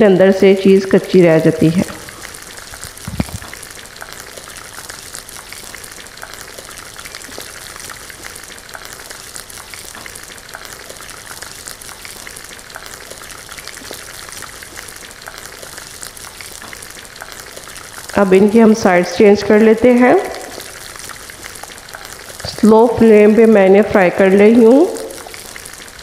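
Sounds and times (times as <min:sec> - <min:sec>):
cutlets sizzling in hot oil: 0:00.0 - 0:26.0.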